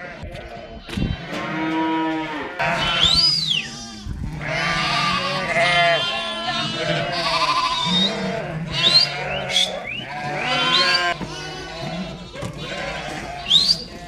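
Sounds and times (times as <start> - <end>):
sheep bleating: 0.0 - 14.0.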